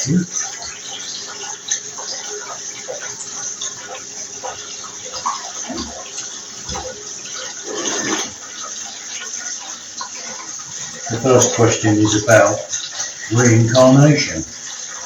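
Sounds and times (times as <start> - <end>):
tap water running into bath: 0.0 - 15.0.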